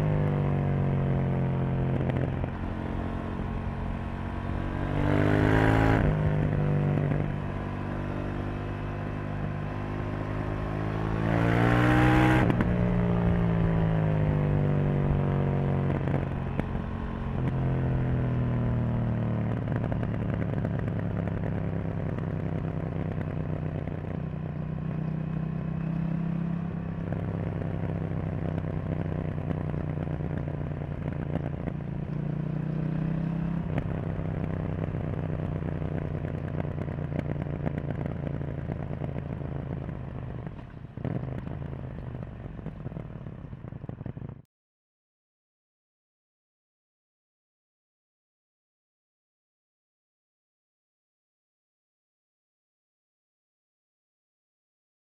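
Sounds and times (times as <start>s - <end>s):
motorcycle engine running: 0.0s - 44.5s.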